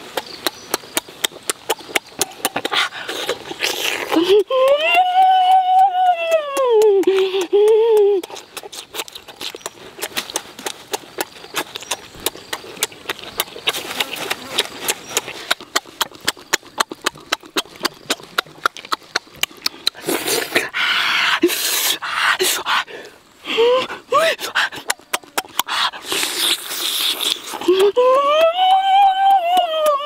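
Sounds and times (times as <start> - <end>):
clicky chewing and mouth smacks: 0.0 - 23.2, 24.4 - 30.0.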